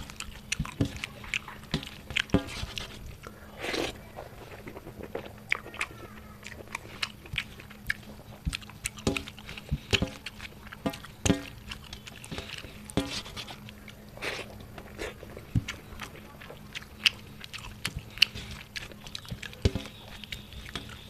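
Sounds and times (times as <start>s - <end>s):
man chewing with wet smacks: 0.0s - 21.0s.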